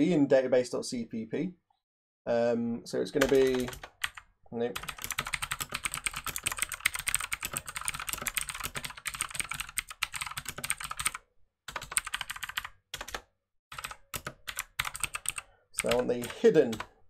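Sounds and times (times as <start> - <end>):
fast keyboard typing: 3.2 - 17.0.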